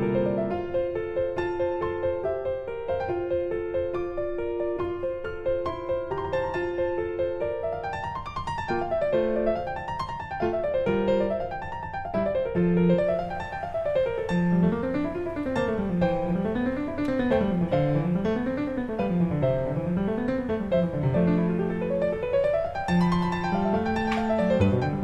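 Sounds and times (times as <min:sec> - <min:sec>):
piano music with arpeggios: 0:00.0 - 0:25.0.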